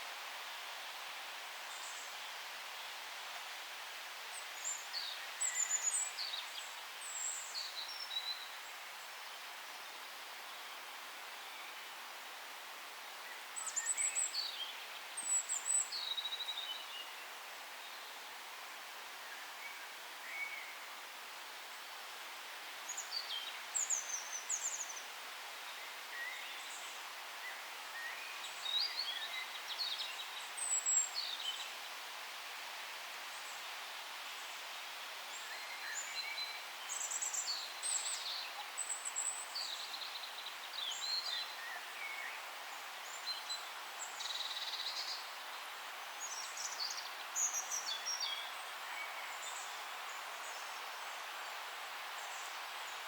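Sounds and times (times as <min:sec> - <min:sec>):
soft background hiss: 0:00.0 - 0:53.0.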